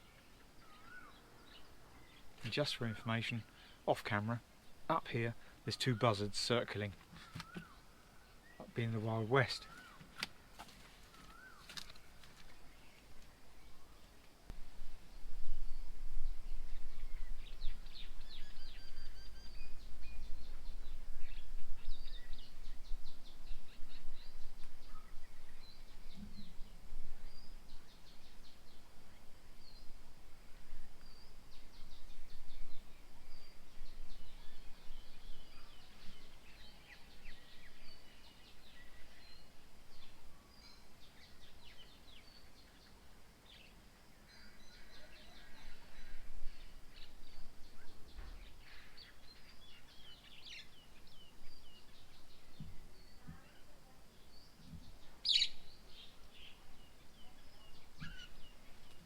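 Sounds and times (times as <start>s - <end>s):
small birds chirping and trilling: 0.0s - 14.4s, 15.0s - 59.0s.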